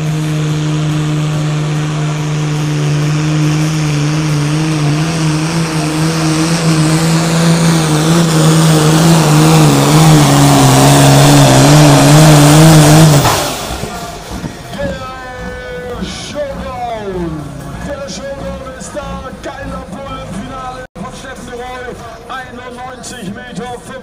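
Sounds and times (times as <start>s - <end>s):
tractor diesel engine at high revs: 0.0s - 24.0s.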